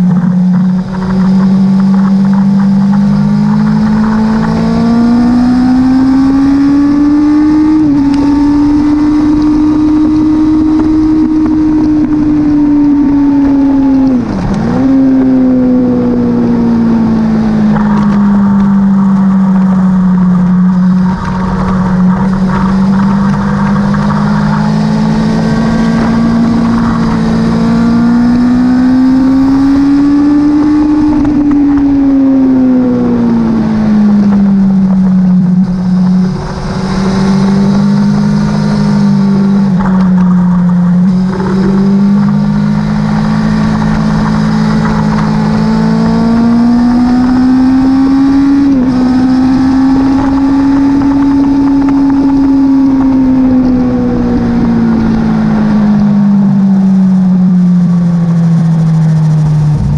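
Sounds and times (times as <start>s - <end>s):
motorcycle engine at high revs: 0.0s - 59.9s
wind on microphone: 0.0s - 59.9s.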